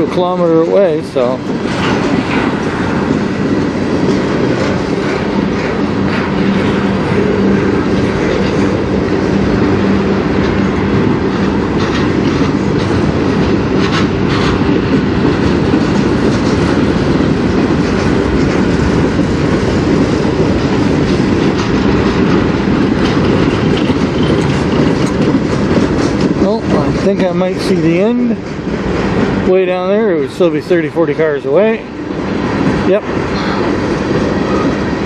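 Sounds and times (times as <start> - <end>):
freight train rolling past: 0.0 - 35.0
wheels clacking over rail joints: 0.0 - 35.0.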